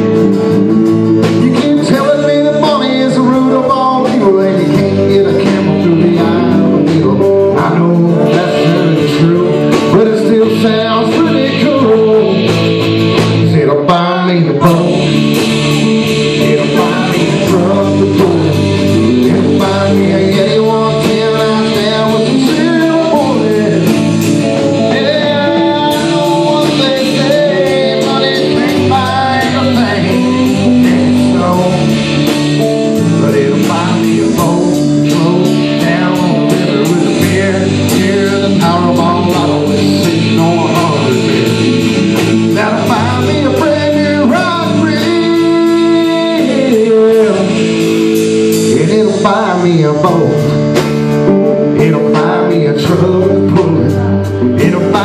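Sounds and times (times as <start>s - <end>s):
live country band playing: 0.0s - 55.0s
person singing: 0.0s - 55.0s.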